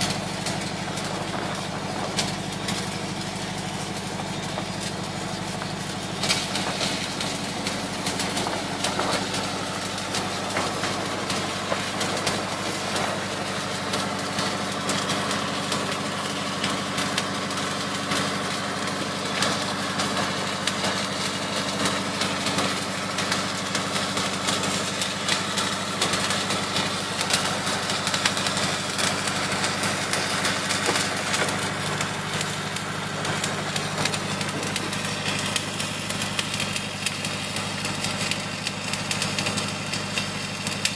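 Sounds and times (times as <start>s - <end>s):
engine humming: 0.0s - 40.9s
welding arc crackling: 0.0s - 40.9s.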